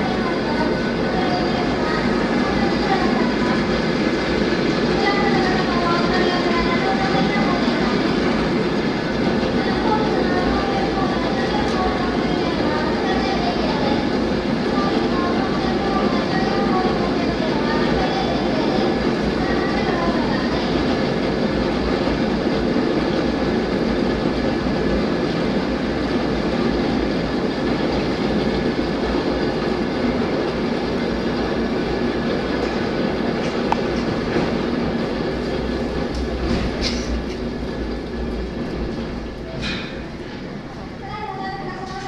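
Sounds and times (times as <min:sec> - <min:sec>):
cable car rolling rumble: 0:00.0 - 0:42.0.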